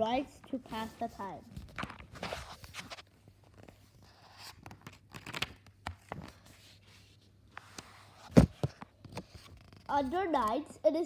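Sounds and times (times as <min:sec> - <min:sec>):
paper rustling and crinkling: 0:00.7 - 0:10.6.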